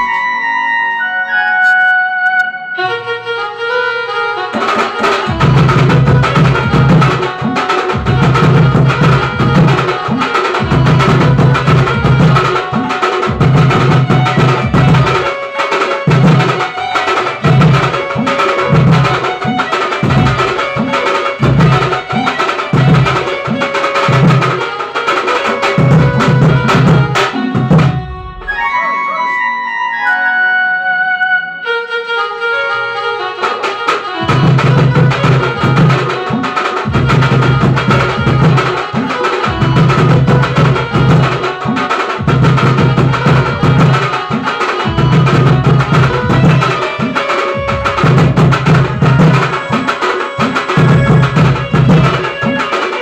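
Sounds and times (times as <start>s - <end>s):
electronic keyboard melody: 0.0s - 53.0s
fast drumming with deep thuds: 4.6s - 28.5s, 33.5s - 53.0s.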